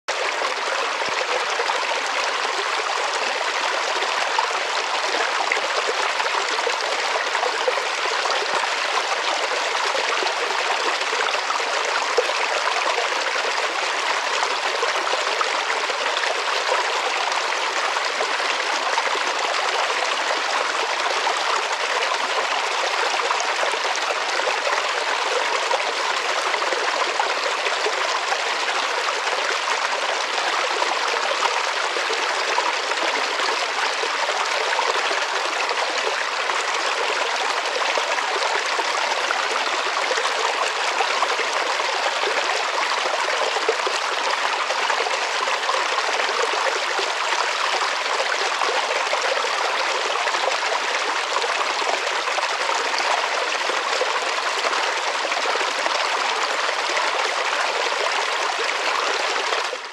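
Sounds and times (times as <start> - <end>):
stream splashing over rocks: 0.1 - 59.9.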